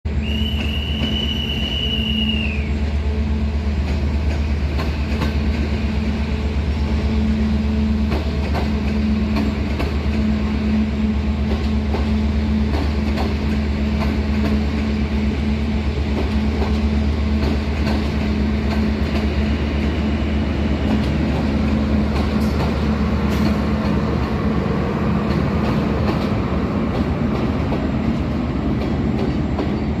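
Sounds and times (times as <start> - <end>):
electric locomotive humming: 0.1 - 30.0
rail joint clicks: 0.2 - 2.7, 3.6 - 30.0.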